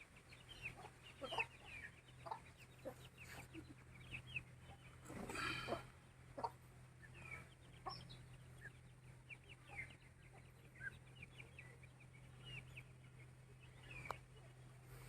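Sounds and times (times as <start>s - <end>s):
chicken clucking: 0.0s - 15.0s
chicken chirps: 0.1s - 15.0s.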